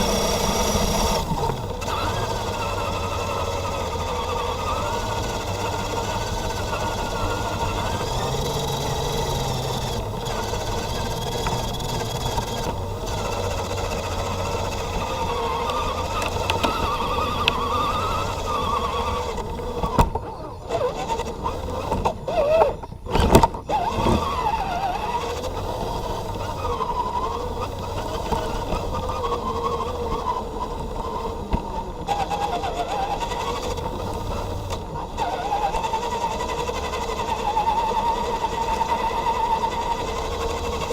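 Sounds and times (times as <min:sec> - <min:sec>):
toy truck electric motor whining: 0:00.0 - 0:40.9.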